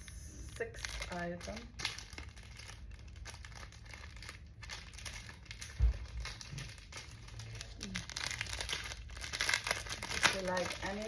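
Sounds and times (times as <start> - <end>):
packaging crinkling and rustling: 0.5 - 11.0.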